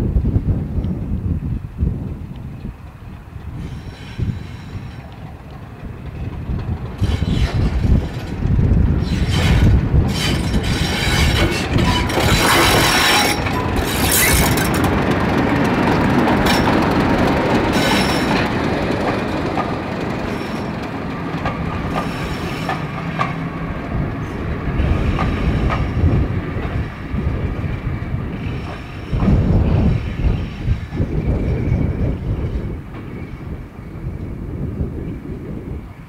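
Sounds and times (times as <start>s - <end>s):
diesel locomotive engine passing: 1.2s - 36.0s
train wheels clicking over rail joints: 2.0s - 33.6s.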